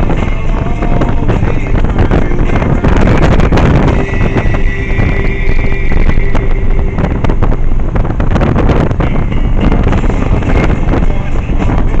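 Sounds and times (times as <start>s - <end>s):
motorcycle rumble: 0.0s - 12.0s
wind buffeting microphone: 0.0s - 12.0s.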